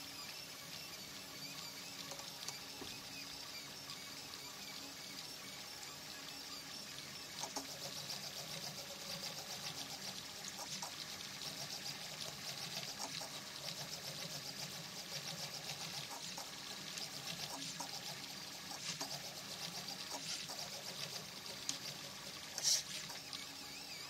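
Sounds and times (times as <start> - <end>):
stepper motors whirring: 0.0 - 24.0.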